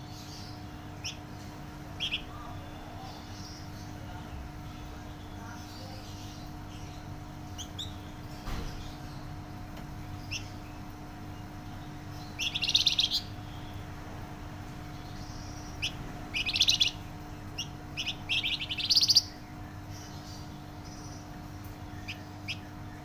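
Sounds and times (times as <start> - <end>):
songbird singing trilled phrases: 0.0 - 14.0, 14.8 - 23.0
faint steady hum: 0.0 - 23.0.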